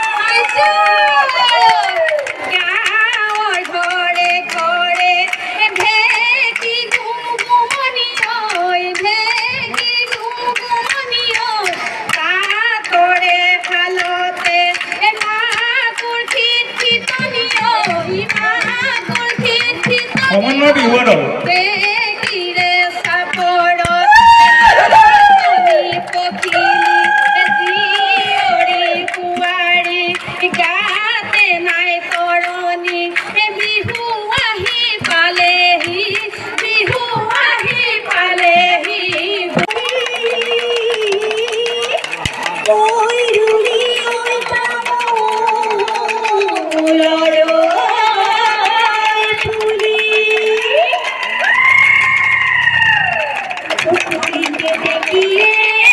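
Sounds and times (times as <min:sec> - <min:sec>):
woman singing into microphone: 0:00.0 - 0:20.4, 0:21.1 - 0:42.1, 0:42.7 - 0:52.0, 0:53.8 - 0:55.9
rhythmic clapping: 0:00.0 - 0:55.9.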